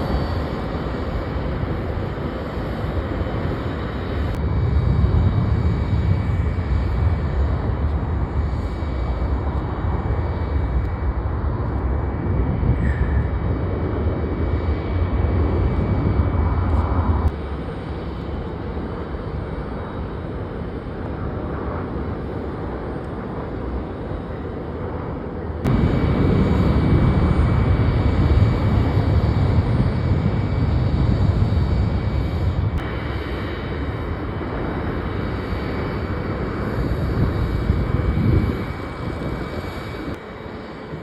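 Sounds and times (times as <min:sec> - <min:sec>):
jet engine roar: 0:00.0 - 0:41.0.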